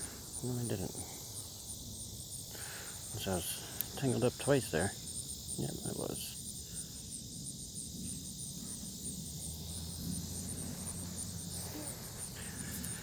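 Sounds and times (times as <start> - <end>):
insects chirping trill: 0.0 - 13.0.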